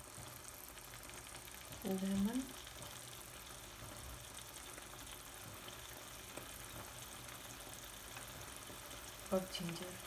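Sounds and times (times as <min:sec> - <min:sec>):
faint sizzling in frying pan: 0:00.0 - 0:10.0.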